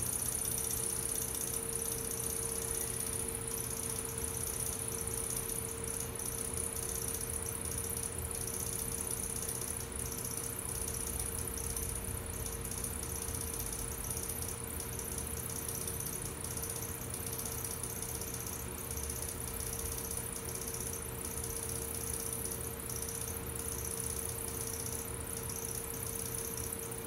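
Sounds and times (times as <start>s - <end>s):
potter's wheel motor hum: 0.0s - 27.0s.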